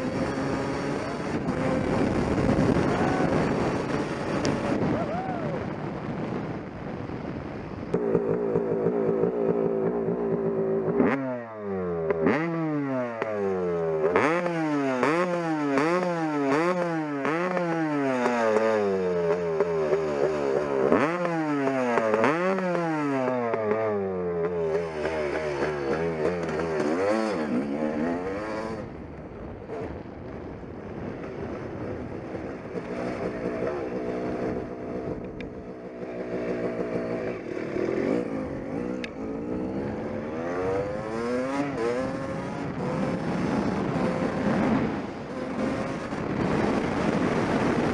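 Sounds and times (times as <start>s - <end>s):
two-stroke engine revving: 0.0s - 4.9s, 7.9s - 29.0s, 31.2s - 47.9s.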